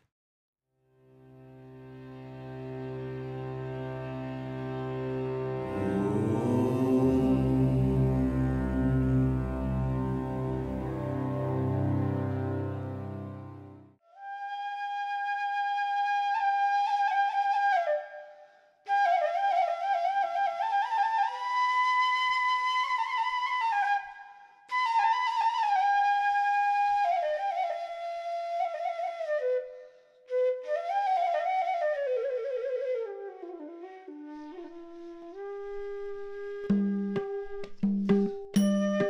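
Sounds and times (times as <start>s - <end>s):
solo flute melody: 5.7s - 39.0s.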